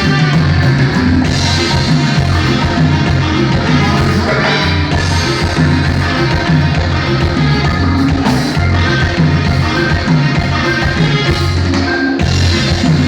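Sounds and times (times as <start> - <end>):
band music with bass and accordion: 0.0 - 13.0.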